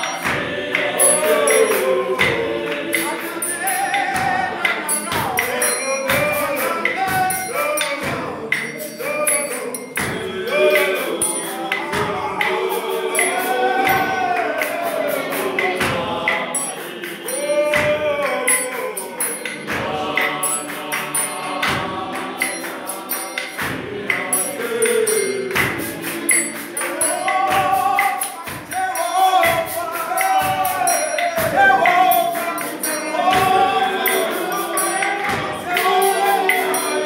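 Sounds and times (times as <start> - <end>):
gospel choir singing: 0.0 - 37.0
jingling percussion beat: 0.0 - 37.0.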